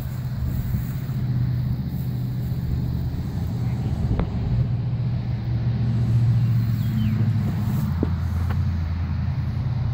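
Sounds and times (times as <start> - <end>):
low mechanical hum: 0.0 - 9.9.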